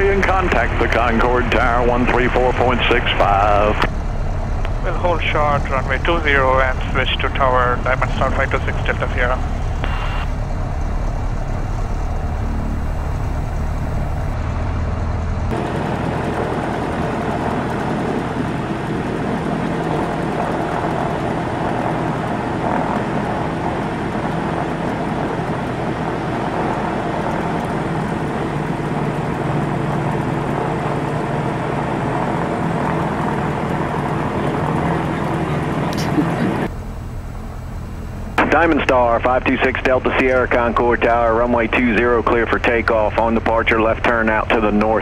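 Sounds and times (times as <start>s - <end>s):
aircraft piston engine idling: 0.0s - 45.0s
jet taxiing: 0.0s - 45.0s
rushing engine noise: 0.0s - 45.0s.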